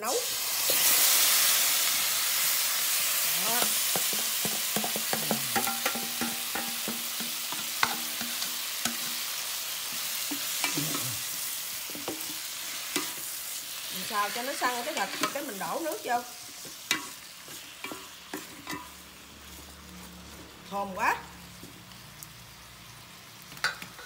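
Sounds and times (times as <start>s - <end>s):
meat sizzling in a pot: 0.0s - 24.0s.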